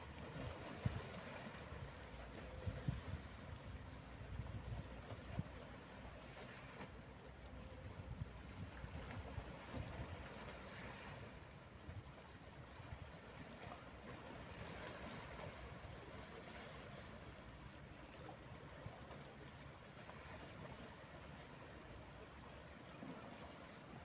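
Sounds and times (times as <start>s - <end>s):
water lapping against boulders: 0.0s - 24.0s.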